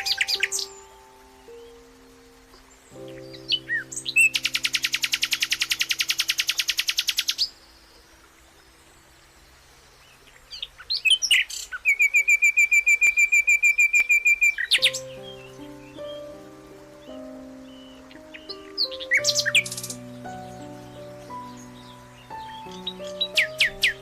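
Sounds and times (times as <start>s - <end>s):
songbird buzzing trill: 0.0s - 24.0s.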